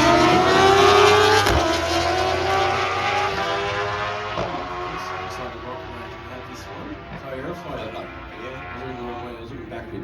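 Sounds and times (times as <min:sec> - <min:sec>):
motorcycle engine accelerating: 0:00.0 - 0:09.3.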